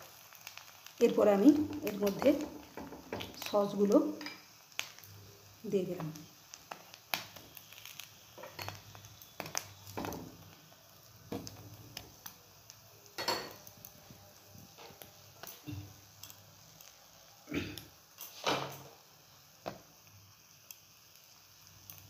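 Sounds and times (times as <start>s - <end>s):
faint sizzle: 0.0s - 22.0s.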